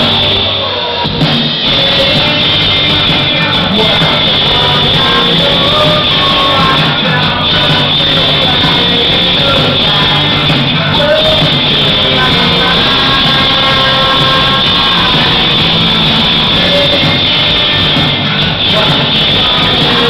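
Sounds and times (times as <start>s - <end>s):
live rock band playing: 0.0s - 20.0s
man singing into microphone: 1.6s - 20.0s.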